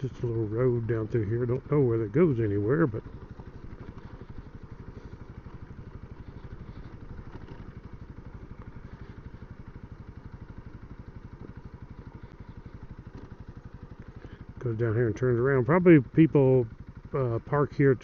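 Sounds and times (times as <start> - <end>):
muffled motorcycle engine running: 0.0 - 18.0.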